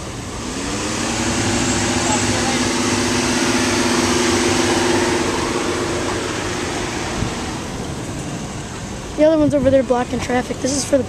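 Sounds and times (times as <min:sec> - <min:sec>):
low two-note hum: 0:00.0 - 0:08.9
vehicle rushing hiss: 0:00.0 - 0:09.2.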